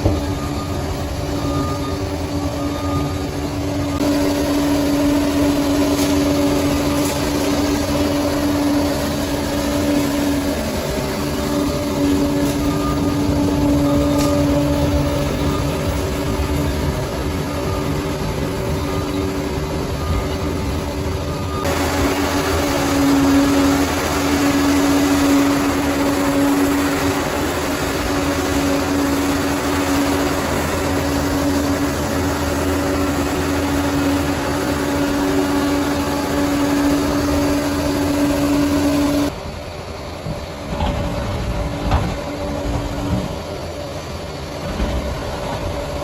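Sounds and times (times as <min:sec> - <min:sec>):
bulldozer diesel engine: 0:00.0 - 0:46.0
held whine: 0:00.0 - 0:46.0.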